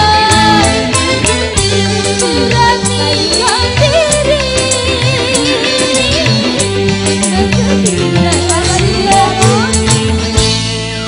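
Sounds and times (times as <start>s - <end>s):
drums: 0.0s - 11.0s
electric bass: 0.0s - 11.0s.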